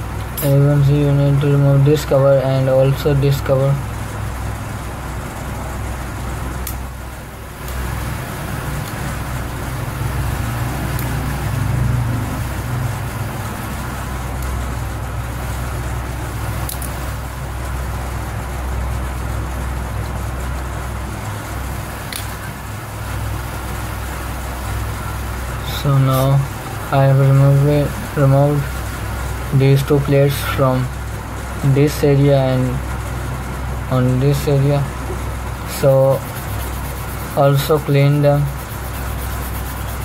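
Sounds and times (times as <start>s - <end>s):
low hum and rumble: 0.0s - 40.0s.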